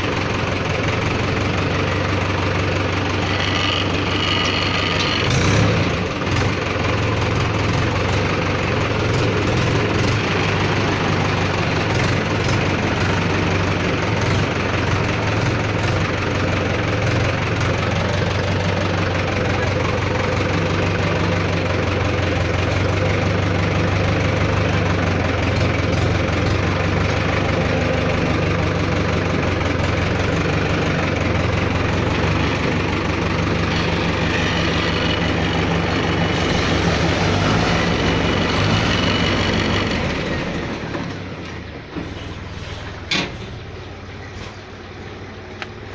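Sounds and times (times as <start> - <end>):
tractor diesel engine idling: 0.0 - 45.9.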